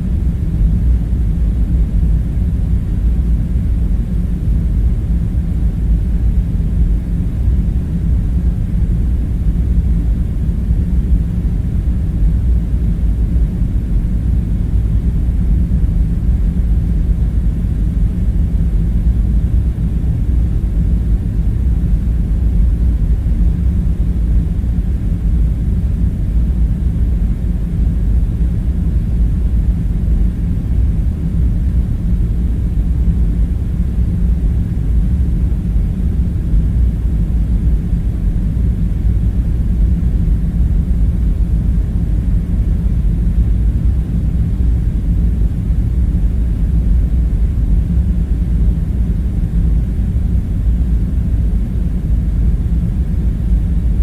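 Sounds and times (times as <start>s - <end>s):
deep droning rumble: 0.0s - 54.0s.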